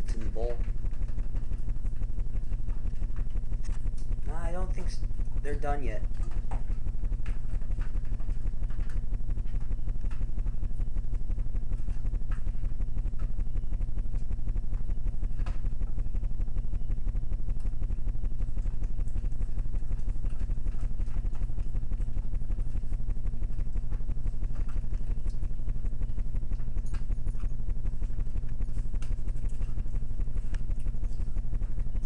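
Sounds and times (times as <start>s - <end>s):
pulsing buzzing hum: 0.0s - 32.0s.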